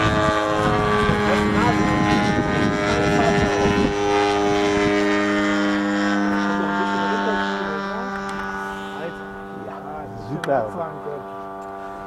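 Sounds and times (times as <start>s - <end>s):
small aircraft engine droning: 0.0s - 12.0s.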